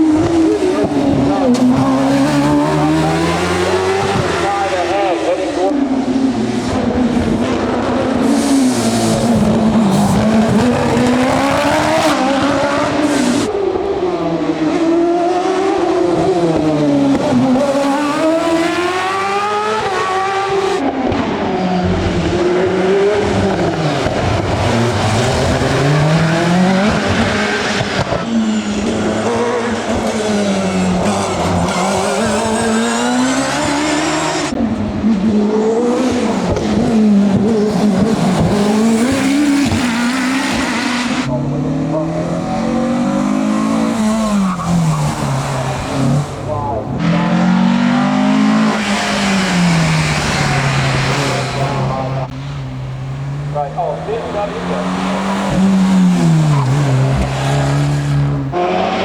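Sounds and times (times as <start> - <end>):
racing car engines at full effort: 0.0 - 59.0.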